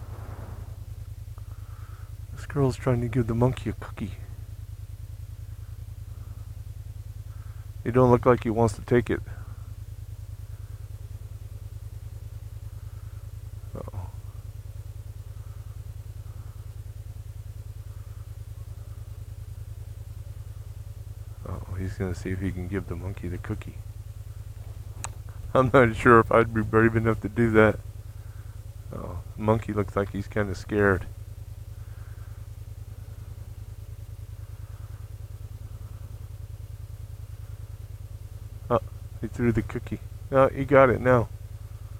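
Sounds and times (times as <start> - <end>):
scooter engine idling: 0.0 - 41.9.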